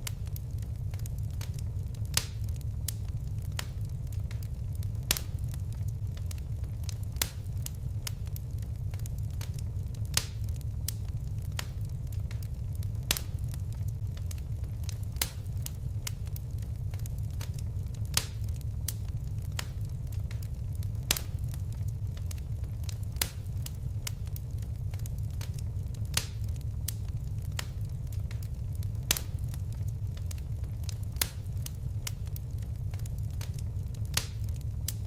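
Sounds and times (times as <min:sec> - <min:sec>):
fire crackling: 0:00.0 - 0:35.0.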